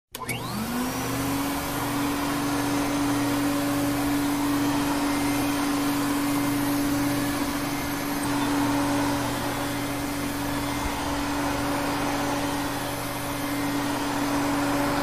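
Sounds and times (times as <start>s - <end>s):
vacuum motor whine: 0.1s - 15.0s.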